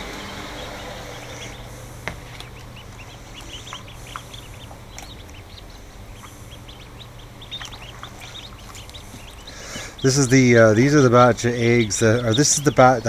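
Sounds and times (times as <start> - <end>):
ducklings peeping: 0.0 - 13.0
low hum: 0.0 - 13.0.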